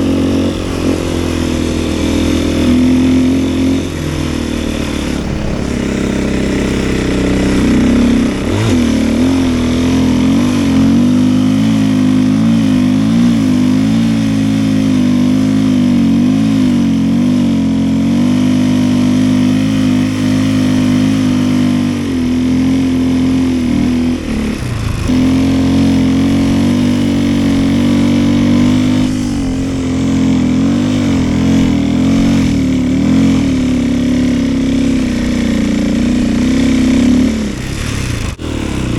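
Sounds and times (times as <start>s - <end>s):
snowbike engine under load: 0.0s - 38.9s.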